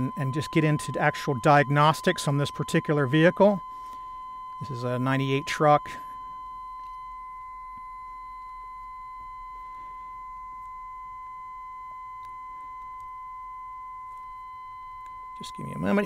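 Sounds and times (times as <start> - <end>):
high-pitched electronic tone: 0.0 - 11.0, 12.5 - 16.0.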